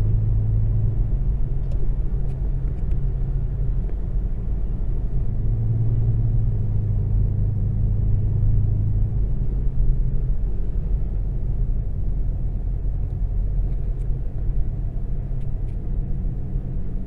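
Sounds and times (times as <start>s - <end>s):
car engine idling rumble: 0.0s - 17.0s.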